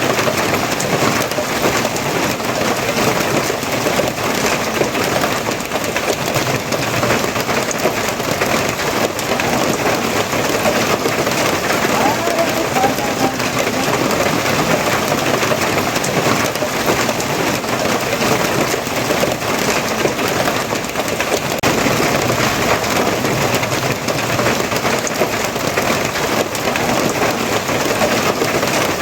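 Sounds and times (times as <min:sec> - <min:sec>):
heavy rain pattering: 0:00.0 - 0:29.0.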